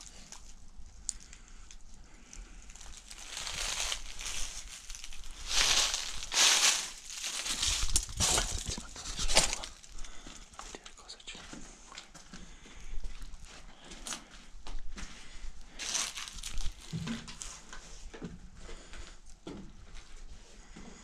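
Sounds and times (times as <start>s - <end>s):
crunching and rustling: 0.0s - 17.8s.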